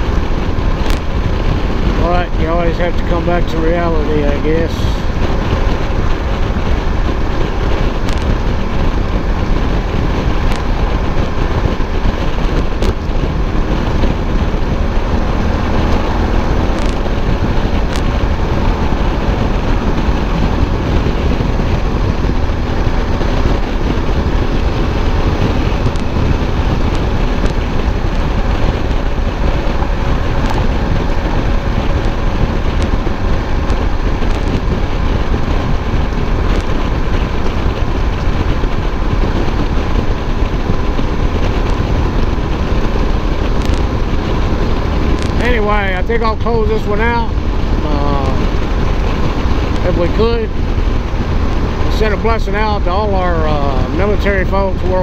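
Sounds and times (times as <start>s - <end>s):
motorcycle engine drone: 0.0s - 55.0s
wind over microphone: 0.0s - 55.0s.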